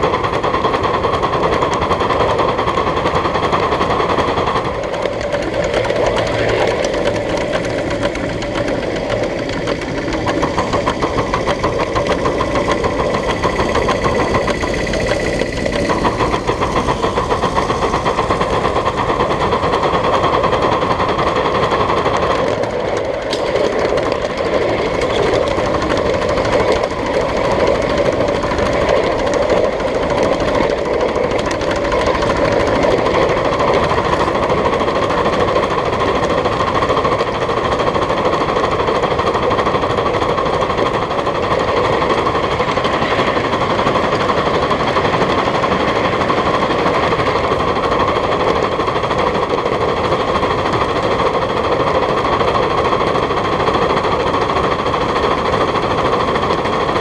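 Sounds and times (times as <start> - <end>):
steam locomotive exhaust chuffs: 0.0 - 57.0.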